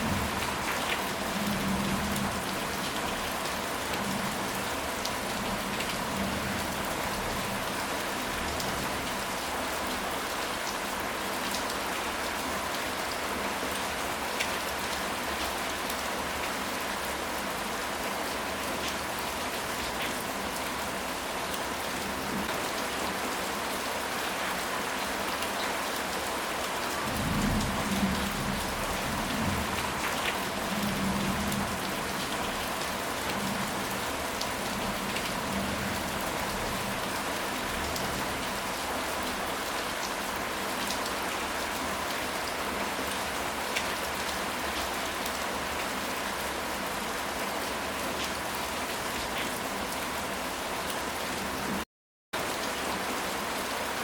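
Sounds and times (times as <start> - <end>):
steady rain falling: 0.0 - 51.8, 52.4 - 54.0.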